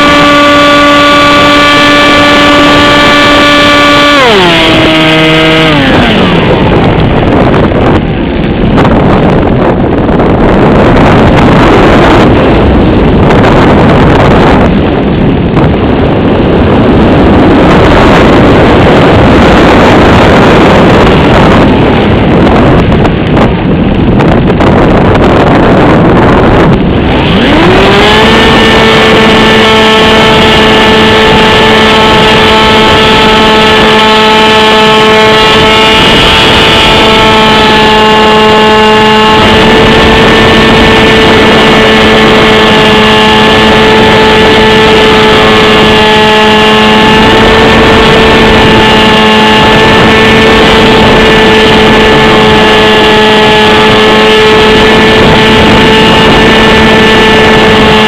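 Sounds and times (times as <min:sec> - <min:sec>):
electric motor and propeller whine: 0:00.0 - 0:58.0
wind rushing over microphone: 0:00.0 - 0:58.0.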